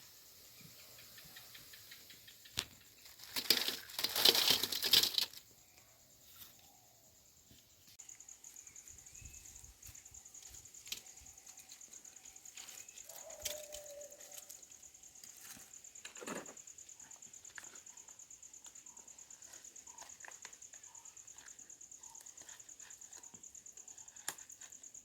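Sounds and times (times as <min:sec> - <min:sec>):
faint high-pitched insect trill: 0:00.0 - 0:25.0.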